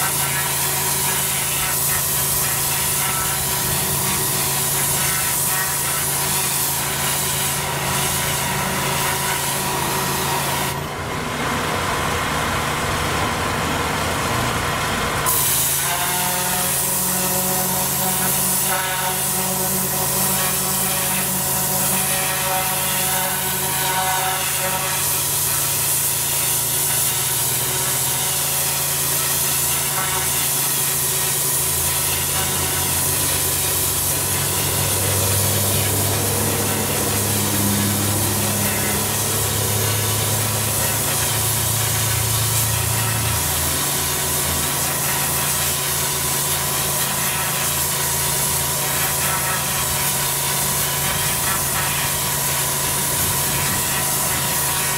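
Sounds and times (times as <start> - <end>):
pressure washer jet hissing on paving: 0.0 - 10.9, 15.2 - 54.9
pressure washer motor humming: 0.0 - 54.9.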